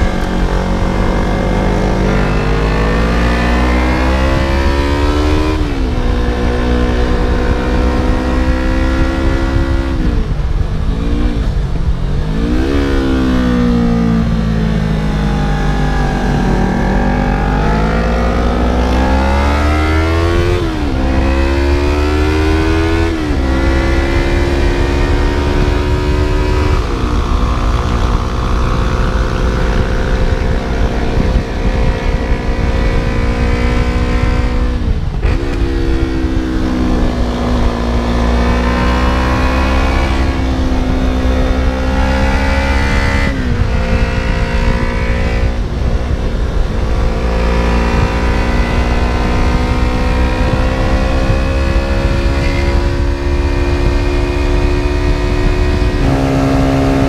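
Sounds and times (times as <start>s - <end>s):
motorcycle engine revving: 0.0s - 57.0s
wind rush on camera: 0.0s - 57.0s.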